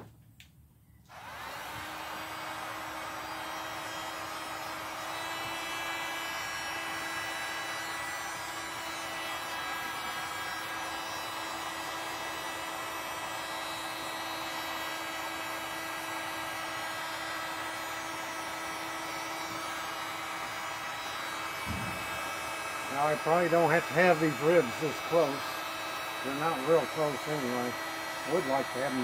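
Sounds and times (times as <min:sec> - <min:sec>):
heat gun fan whining: 0:00.0 - 0:29.0.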